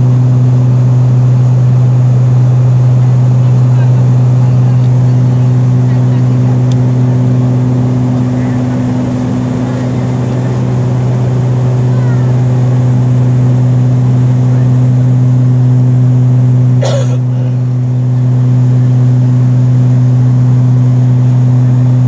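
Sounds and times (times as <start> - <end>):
aircraft cabin drone: 0.0 - 22.0.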